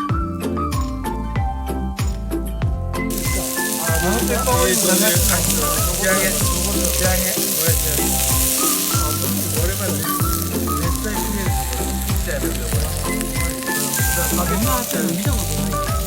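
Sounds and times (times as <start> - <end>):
music with beat and bass: 0.0 - 16.0
food sizzling in a pan: 3.1 - 16.0.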